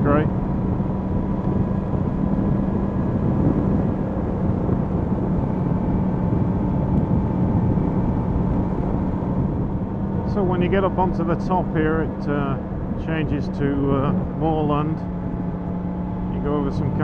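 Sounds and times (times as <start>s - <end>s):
motorcycle engine cruising: 0.0s - 17.0s
steady rushing noise: 0.0s - 17.0s.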